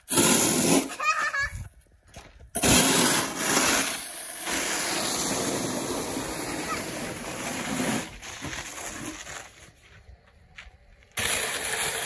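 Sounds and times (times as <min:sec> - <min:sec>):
snow shovels scraping concrete: 0:00.0 - 0:01.6, 0:02.6 - 0:10.1, 0:11.1 - 0:12.0.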